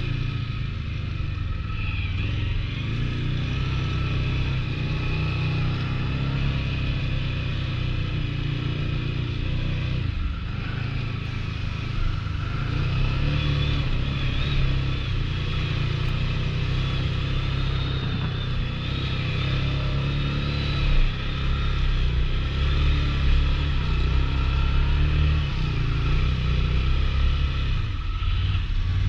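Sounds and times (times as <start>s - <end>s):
atv engine running under load: 0.0s - 29.0s.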